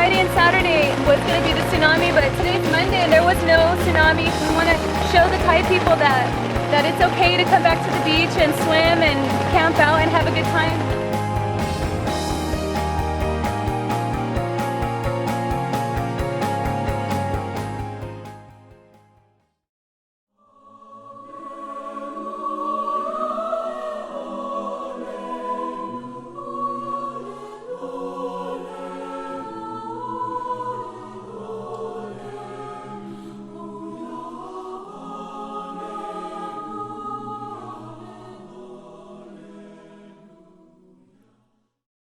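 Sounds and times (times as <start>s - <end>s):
choir singing held chords: 0.0s - 18.2s, 20.4s - 41.4s.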